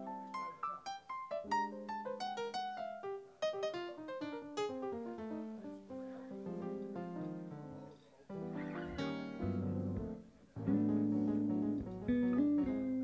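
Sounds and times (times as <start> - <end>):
electric keyboard piano playing: 0.0 - 13.0.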